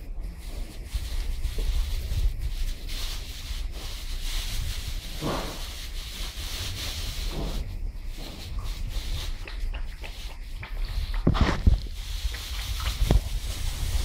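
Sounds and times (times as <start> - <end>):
low rumble on microphone: 0.0 - 14.0
straw rustling and crunching: 0.2 - 14.0.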